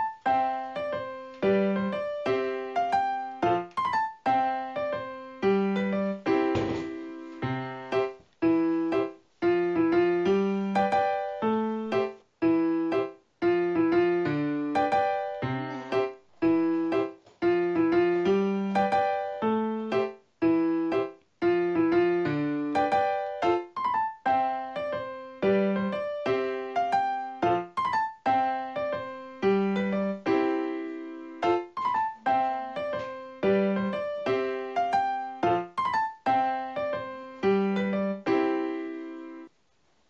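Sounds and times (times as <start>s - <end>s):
keyboard tune with piano sound: 0.0s - 39.5s.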